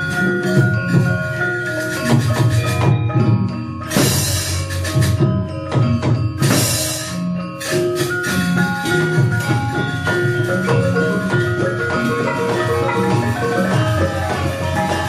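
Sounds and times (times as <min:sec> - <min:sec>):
drum: 0:00.0 - 0:15.0
metallophones and gongs ringing: 0:00.0 - 0:15.0.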